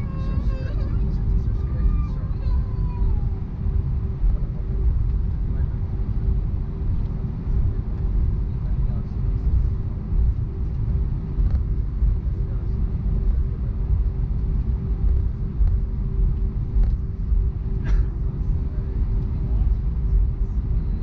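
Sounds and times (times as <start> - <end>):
constant hum: 0.0 - 21.0
jet engines rumbling in cabin: 0.0 - 21.0.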